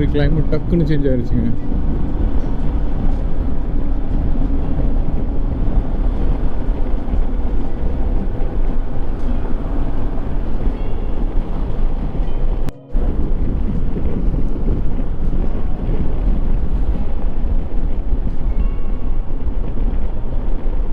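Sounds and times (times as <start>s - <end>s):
motorcycle engine running: 0.0s - 20.9s
wind rushing over microphone: 0.0s - 20.9s.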